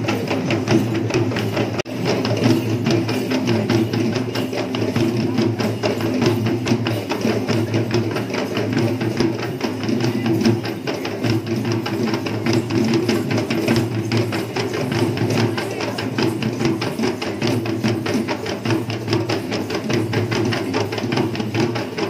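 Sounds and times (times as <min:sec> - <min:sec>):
fast dense drumming: 0:00.0 - 0:22.0.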